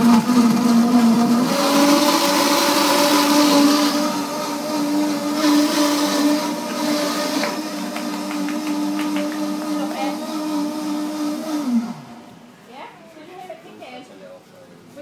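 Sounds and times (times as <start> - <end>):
blender motor whine: 0.0 - 12.4
hiss of churning mix: 0.0 - 13.7.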